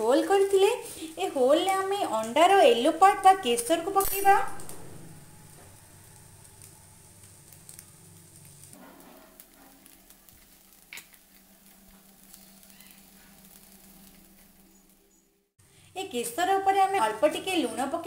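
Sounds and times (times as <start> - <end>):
fritters sizzling in oil: 0.0 - 15.4.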